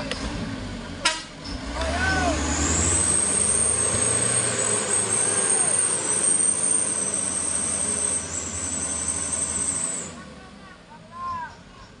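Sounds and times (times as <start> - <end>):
truck diesel engine working hard: 0.0 - 11.3.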